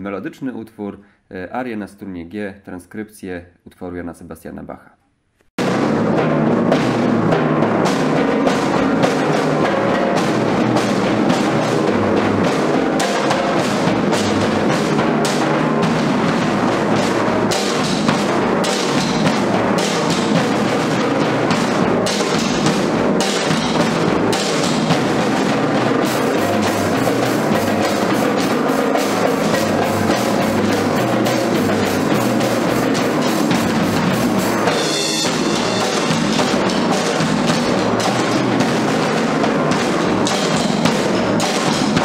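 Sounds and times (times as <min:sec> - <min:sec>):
cymbals crashing: 0:05.6 - 0:42.0
drums playing a rhythm: 0:05.6 - 0:42.0.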